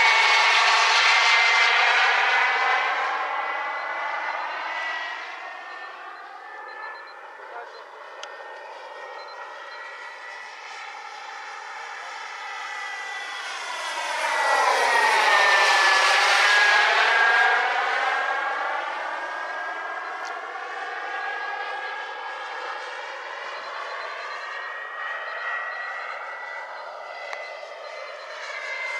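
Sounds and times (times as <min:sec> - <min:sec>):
model jet flying past: 0:00.0 - 0:28.9.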